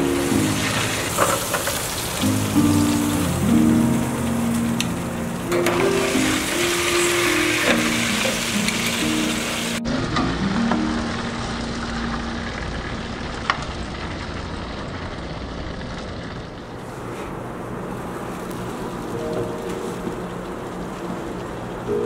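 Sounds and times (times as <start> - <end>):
gas grill rushing: 0.0 - 22.0.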